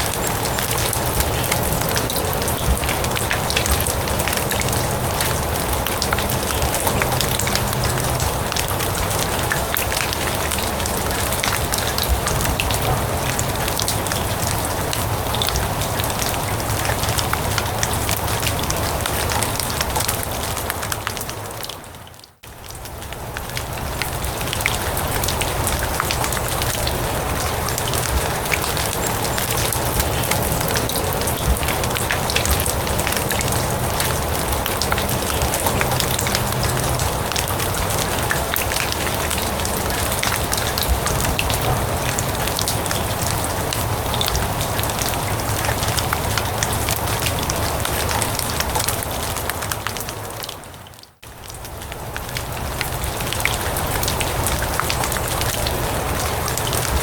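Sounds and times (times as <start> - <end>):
rain on grass and leaves: 0.0 - 57.0.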